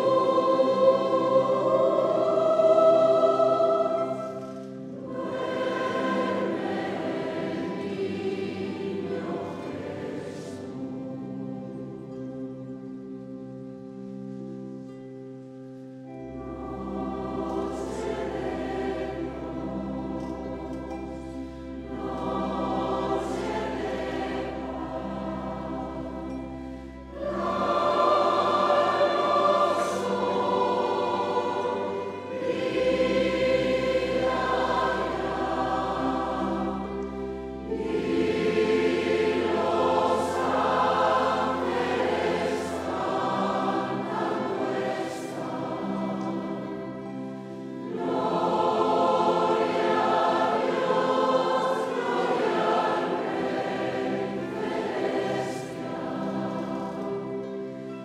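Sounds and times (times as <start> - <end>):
mixed choir singing: 0.0 - 12.6, 16.1 - 58.0.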